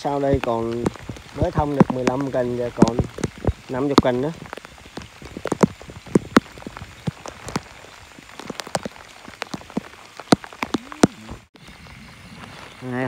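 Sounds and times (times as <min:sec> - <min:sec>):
heavy rain: 0:00.0 - 0:13.0
raindrops tapping near microphone: 0:00.0 - 0:13.0.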